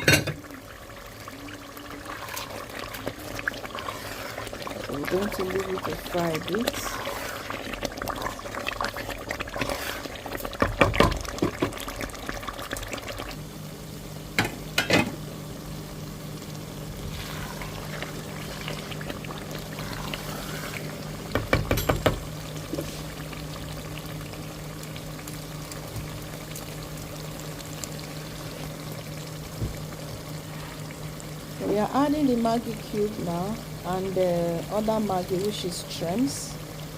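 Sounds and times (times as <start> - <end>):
steady low hum: 0.0 - 36.9
sauce bubbling and frying in oil: 0.3 - 36.9.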